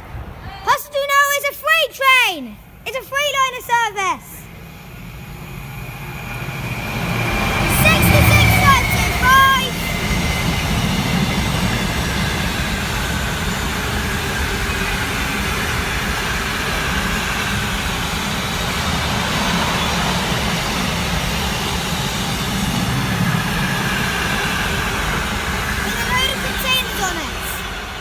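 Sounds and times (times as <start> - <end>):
freight train passing: 0.0 - 28.0.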